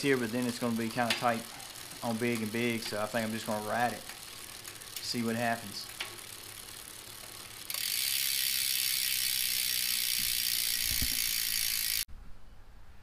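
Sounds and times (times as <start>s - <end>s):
bike freehub ratcheting buzz: 0.0s - 12.1s.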